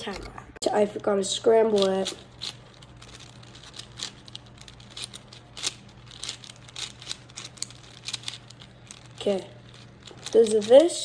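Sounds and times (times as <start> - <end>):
speed cube clicking: 1.5 - 11.0.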